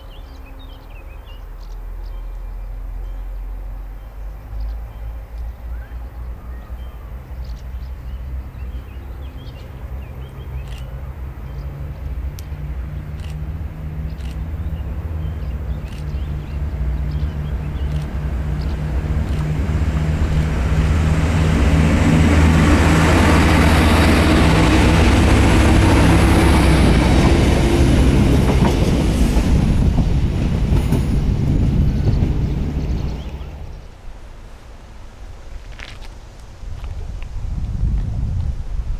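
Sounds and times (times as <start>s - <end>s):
diesel railcar engine drone: 0.0s - 38.9s.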